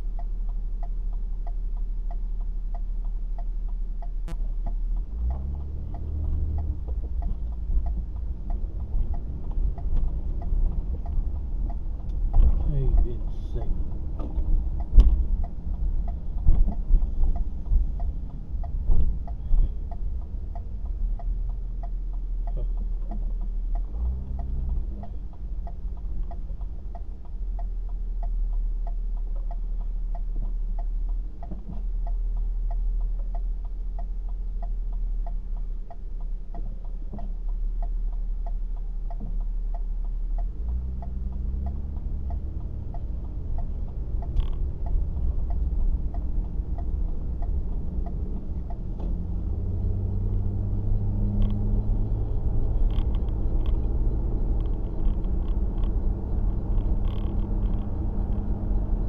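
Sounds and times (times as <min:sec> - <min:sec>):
engine hum: 0:00.0 - 0:59.0
steady ticking: 0:00.0 - 0:59.0
vehicle rumble from inside: 0:00.0 - 0:59.0.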